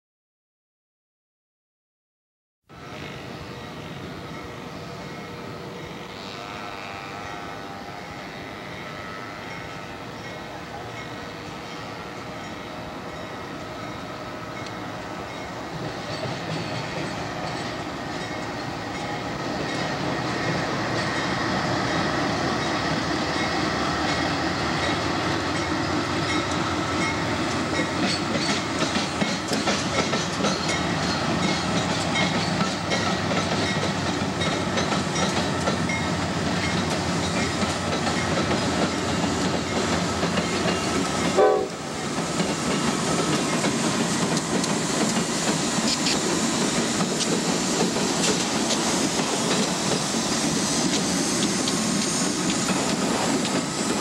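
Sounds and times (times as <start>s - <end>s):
diesel locomotives passing: 2.7s - 54.0s
train wheels on rails: 3.3s - 54.0s.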